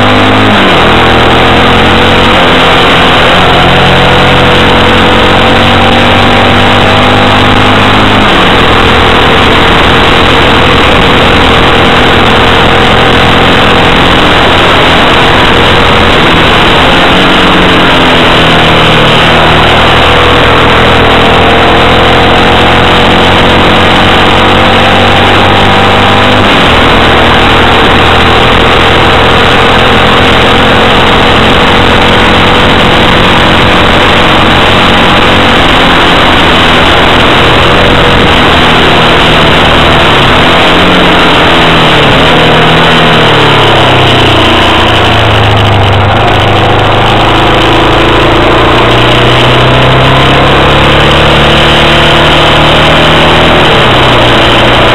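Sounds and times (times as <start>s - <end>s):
motorcycle engine revving: 0.0s - 54.9s
wind noise on microphone: 0.0s - 54.9s.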